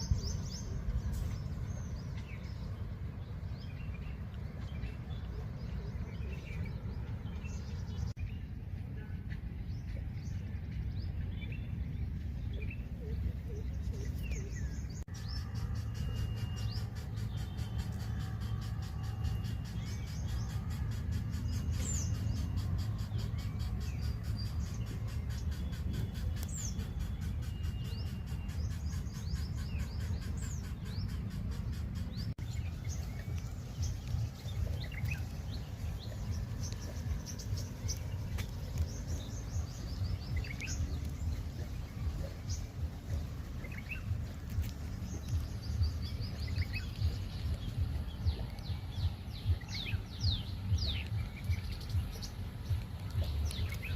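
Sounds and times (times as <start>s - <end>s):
low rumble: 0.0s - 53.9s
small birds chirping: 0.0s - 53.9s.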